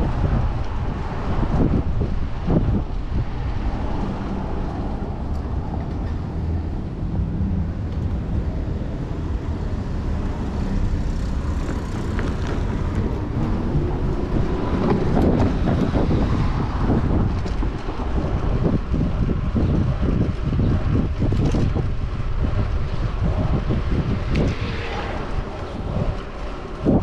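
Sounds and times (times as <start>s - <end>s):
city traffic: 0.0s - 27.0s
wind noise on microphone: 0.0s - 27.0s.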